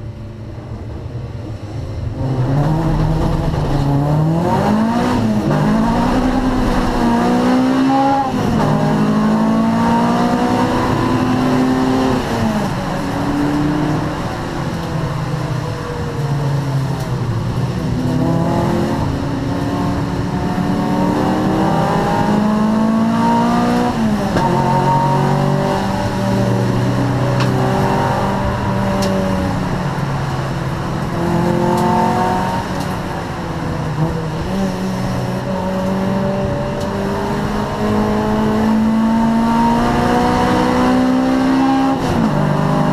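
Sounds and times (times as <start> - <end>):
race car engine accelerating: 2.0 - 42.9.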